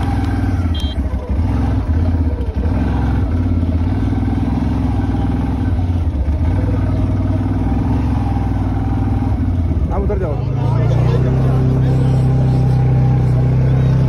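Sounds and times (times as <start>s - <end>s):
quad bike engine running: 0.0s - 14.0s.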